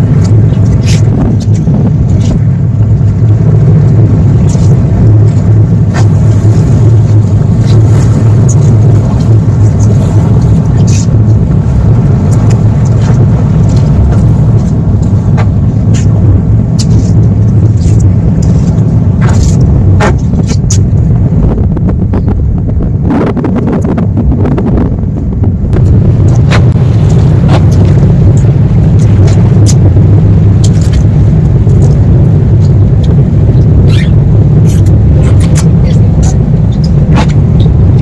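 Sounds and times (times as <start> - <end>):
ferry engine drone: 0.0 - 38.0
wind buffeting microphone: 0.0 - 38.0.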